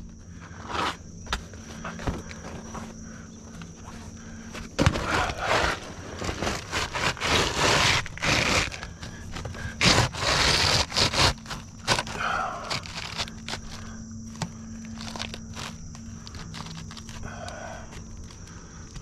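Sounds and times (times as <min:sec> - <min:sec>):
faint steady hum: 0:00.0 - 0:19.0
rough scraping on shingle roof: 0:00.4 - 0:19.0.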